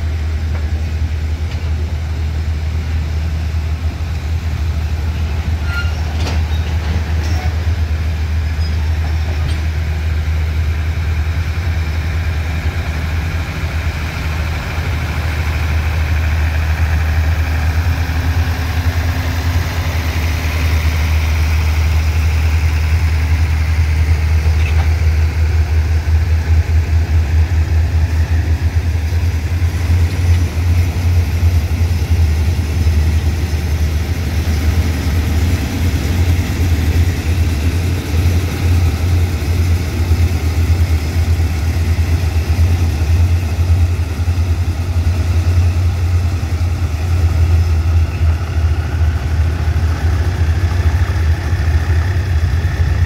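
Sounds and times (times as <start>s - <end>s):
locomotive engine idling: 0.0s - 53.0s.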